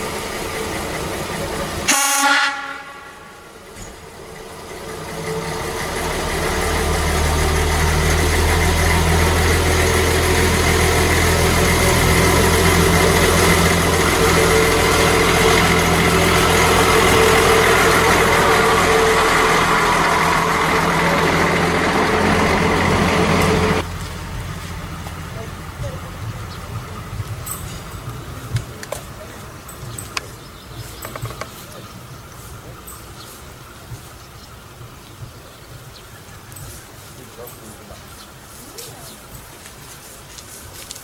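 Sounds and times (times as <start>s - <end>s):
diesel railcar engine passing: 0.0s - 41.0s.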